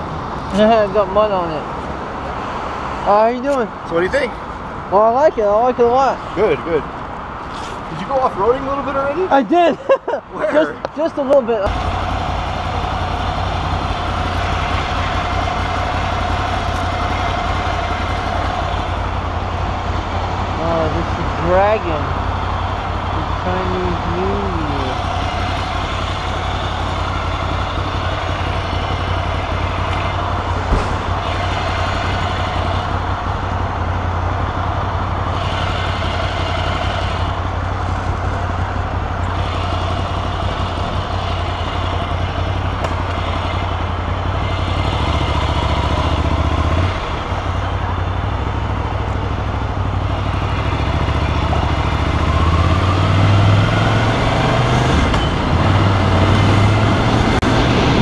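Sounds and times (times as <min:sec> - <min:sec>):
motorcycle engine: 0:10.3 - 0:58.0.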